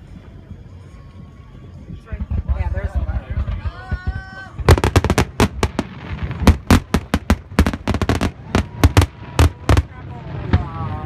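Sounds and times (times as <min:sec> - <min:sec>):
fireworks bursting: 0:02.0 - 0:11.0.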